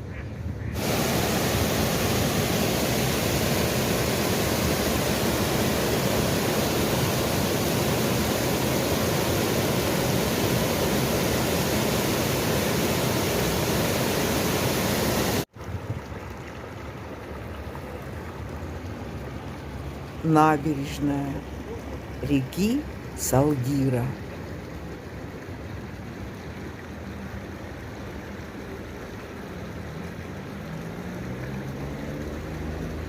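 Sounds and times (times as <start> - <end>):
water flowing quietly: 0.0 - 33.0
river water rushing: 0.8 - 23.3, 24.4 - 33.0.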